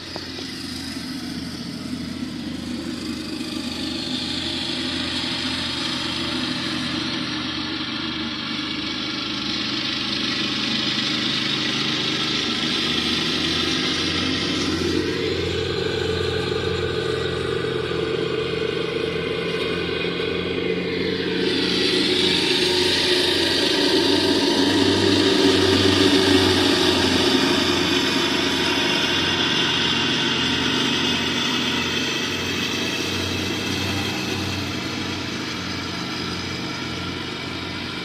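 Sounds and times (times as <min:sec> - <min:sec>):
lawnmower engine running: 0:00.0 - 0:38.0.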